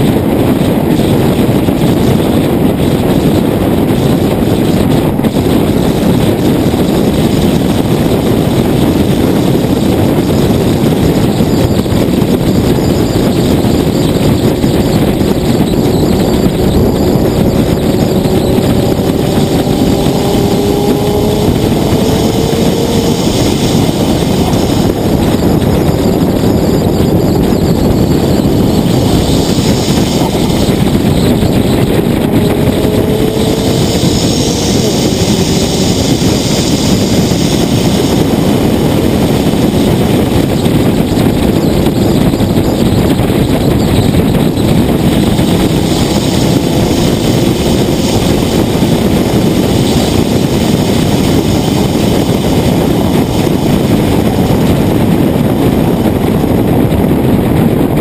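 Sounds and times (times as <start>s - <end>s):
car engine running: 0.0s - 57.4s
road and wind noise: 0.0s - 58.0s.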